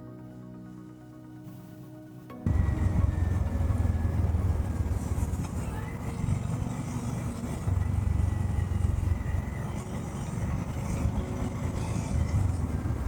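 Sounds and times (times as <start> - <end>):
motorcycle engine rumble: 2.4 - 13.0.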